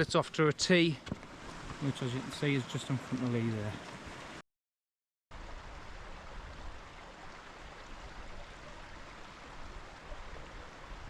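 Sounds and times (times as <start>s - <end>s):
mountain stream rushing: 0.8s - 4.4s, 5.4s - 11.0s.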